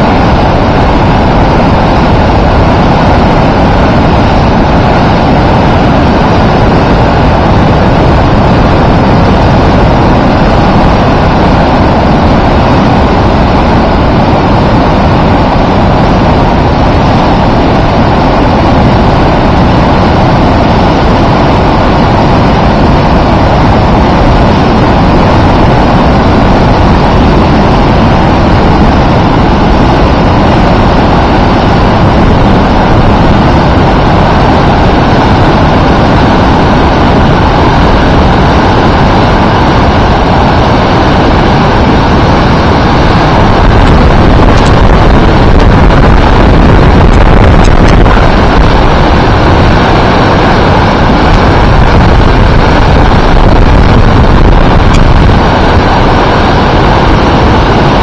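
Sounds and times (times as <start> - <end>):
floodwater rushing from dam outlet: 0.0 - 58.0.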